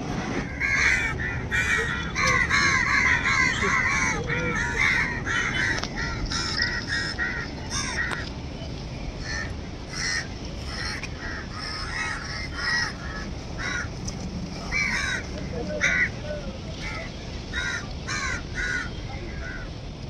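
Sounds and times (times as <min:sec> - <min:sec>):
crows cawing: 0:00.4 - 0:08.2, 0:09.2 - 0:14.0, 0:14.7 - 0:16.2, 0:16.8 - 0:19.7.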